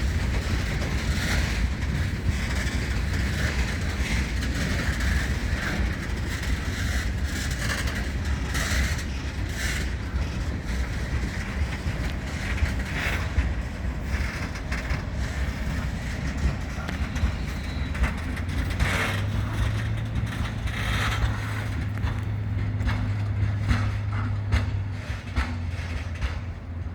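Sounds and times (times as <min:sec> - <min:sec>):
freight train rumbling past: 0:00.0 - 0:26.9
wheels clacking over rail joints: 0:00.0 - 0:26.9.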